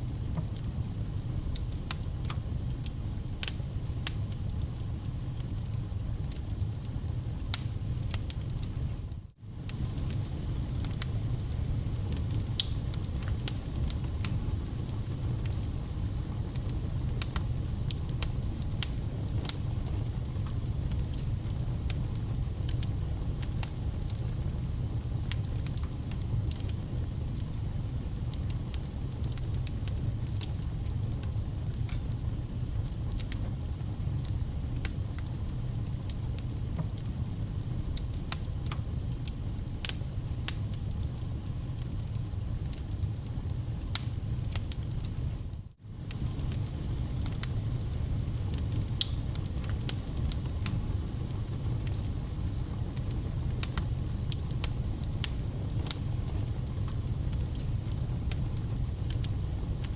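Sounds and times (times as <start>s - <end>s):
firewood crackling and popping: 0.0s - 59.9s
low rumble of flame: 0.0s - 59.9s.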